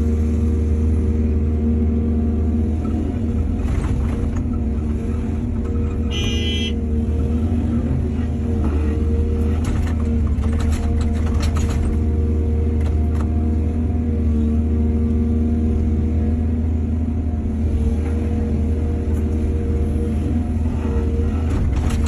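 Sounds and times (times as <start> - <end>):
diesel excavator engine running: 0.0 - 22.0.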